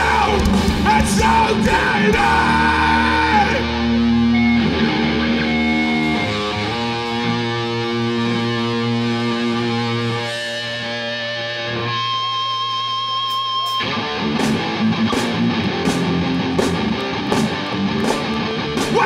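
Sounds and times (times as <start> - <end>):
loud rock band playing: 0.0 - 19.0
electric guitar chord ringing: 2.9 - 19.0
wavering high guitar note: 3.3 - 19.0.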